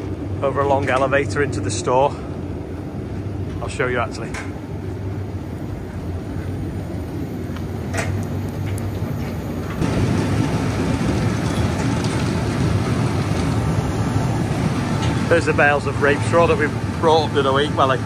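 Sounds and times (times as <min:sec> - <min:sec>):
conveyor machinery rumbling: 0:00.0 - 0:18.0.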